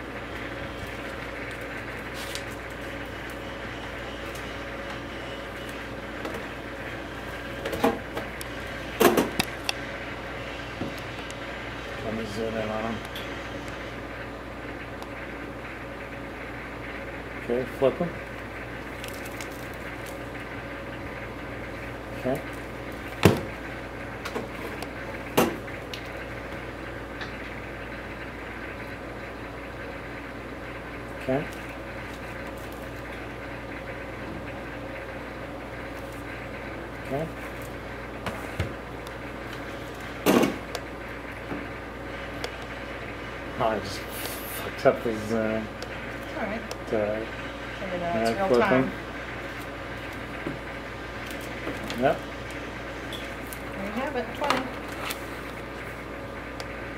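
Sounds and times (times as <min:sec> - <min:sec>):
steady hum: 0:00.0 - 0:56.9.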